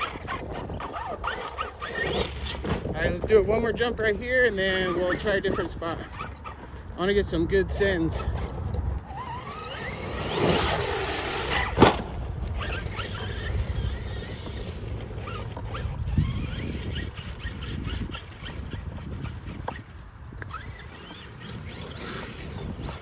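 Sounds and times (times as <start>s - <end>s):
rc car motor whining: 0.0s - 23.0s.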